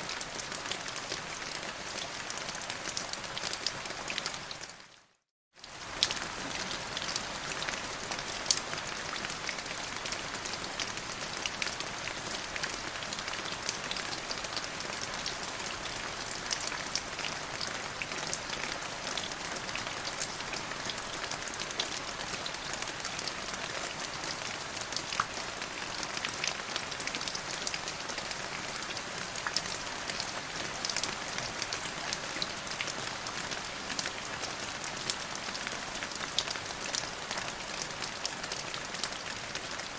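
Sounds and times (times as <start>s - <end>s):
rain falling: 5.6s - 39.9s.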